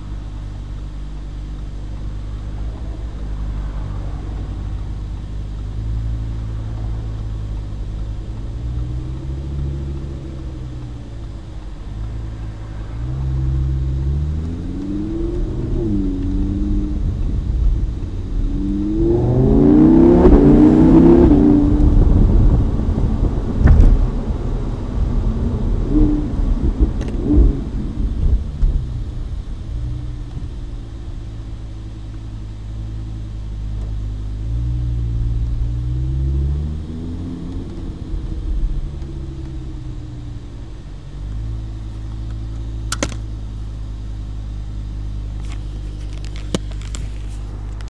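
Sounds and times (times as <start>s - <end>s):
car engine revving and idling: 0.0s - 47.9s
exhaust cracks: 0.0s - 47.9s.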